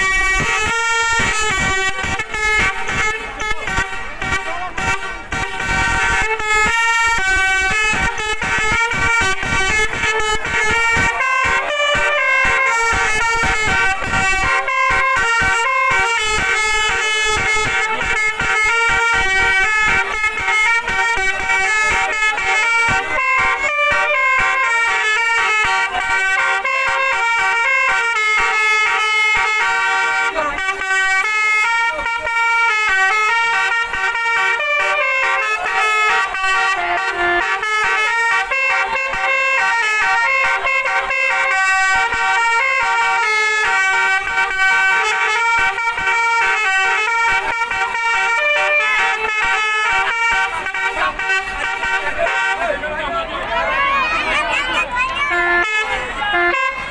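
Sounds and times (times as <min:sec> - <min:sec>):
multi-trumpet air horn tune: 0:00.0 - 0:56.9.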